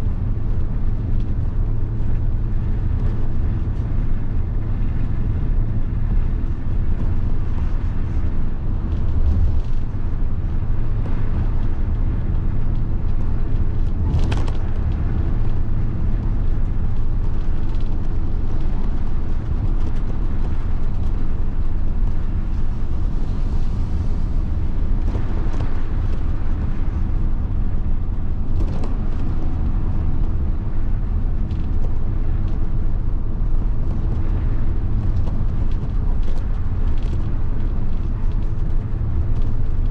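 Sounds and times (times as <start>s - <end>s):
diesel bus engine rumbling: 0.0s - 39.9s.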